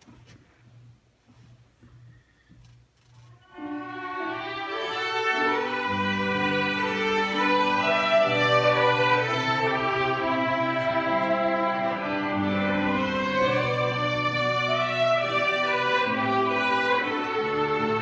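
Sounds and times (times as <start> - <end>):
string ensemble: 3.4 - 18.0
violins playing: 3.4 - 18.0.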